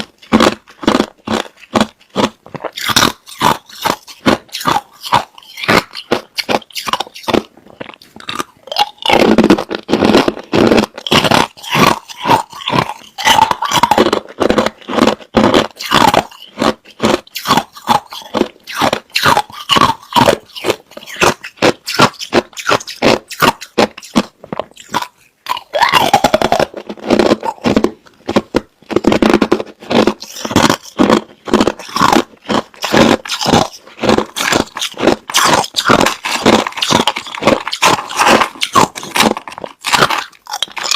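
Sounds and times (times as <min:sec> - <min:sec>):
chewing crushed ice: 0:00.0 - 0:40.9.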